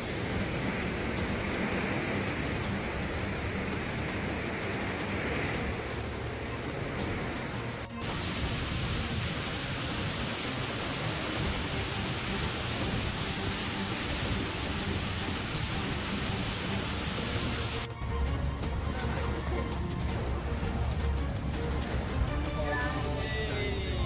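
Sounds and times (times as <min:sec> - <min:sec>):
heavy water rushing: 0:00.0 - 0:24.0.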